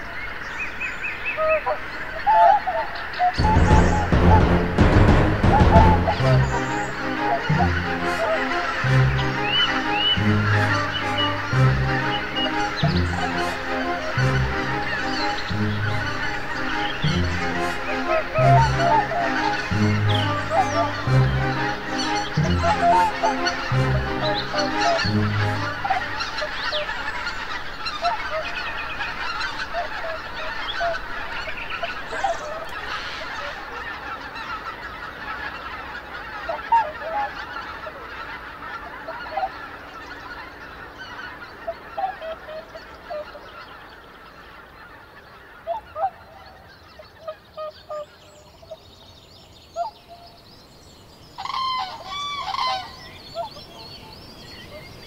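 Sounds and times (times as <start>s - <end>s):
flock of geese honking: 0.0s - 50.4s, 51.3s - 55.0s.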